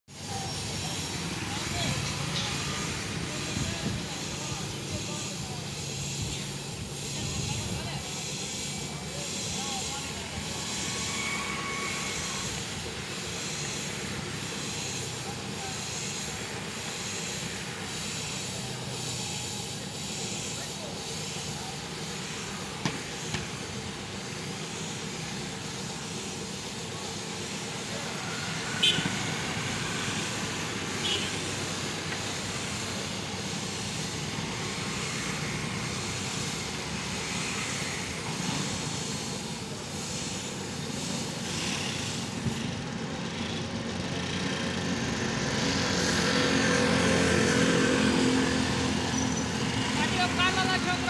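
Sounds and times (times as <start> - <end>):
street traffic: 0.0 - 51.0
spray gun hissing: 0.1 - 51.0.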